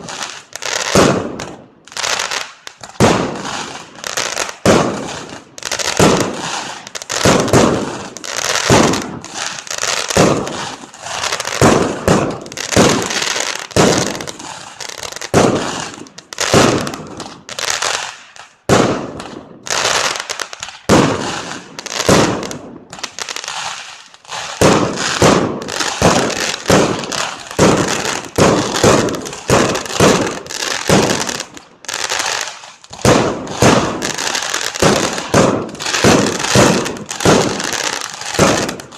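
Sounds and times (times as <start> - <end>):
fireworks bangs echoing: 0.0 - 38.9.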